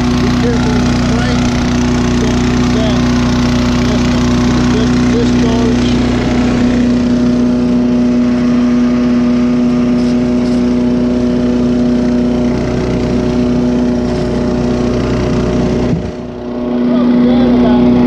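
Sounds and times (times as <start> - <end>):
wood chipper engine droning: 0.0 - 18.0.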